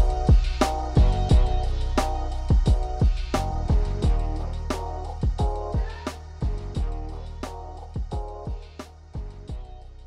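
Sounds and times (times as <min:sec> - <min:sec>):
electronic music with kick drums: 0:00.0 - 0:10.0.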